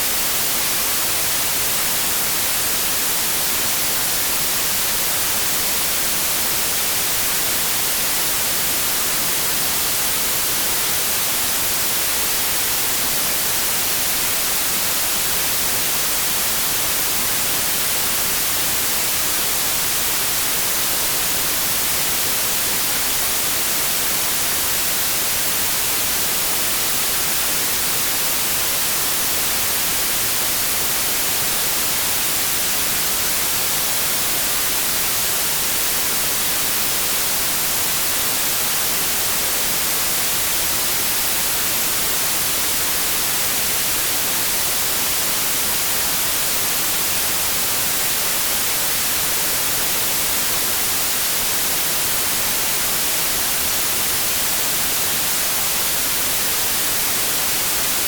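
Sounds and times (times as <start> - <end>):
white noise static hiss: 0.0 - 58.0.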